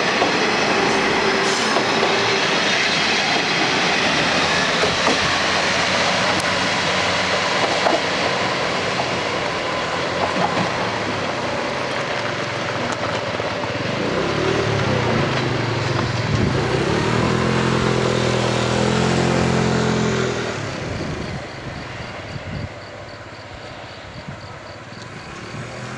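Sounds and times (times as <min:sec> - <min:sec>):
engine drone: 0:00.0 - 0:22.6.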